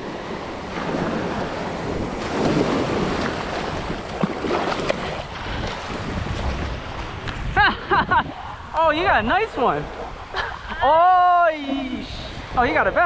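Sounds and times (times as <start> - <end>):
waves washing on sand: 0.0 - 13.0
wind buffeting microphone: 0.0 - 13.0.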